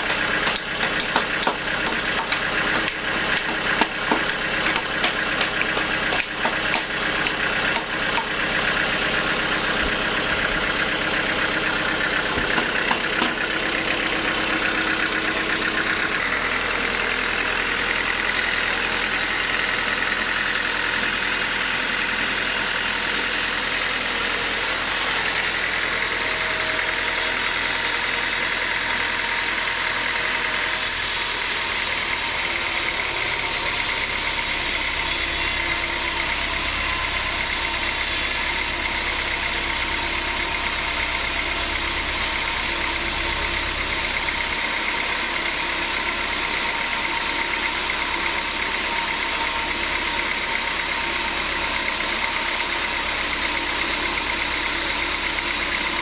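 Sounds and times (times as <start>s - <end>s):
band sawmill running: 0.0s - 56.0s.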